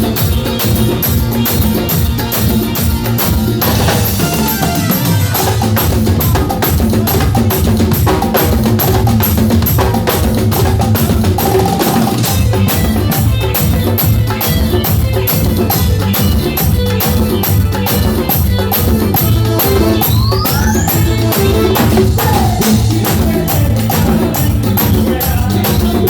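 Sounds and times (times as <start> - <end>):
drum kit steady beat: 0.0 - 26.0
live band music: 0.0 - 26.0.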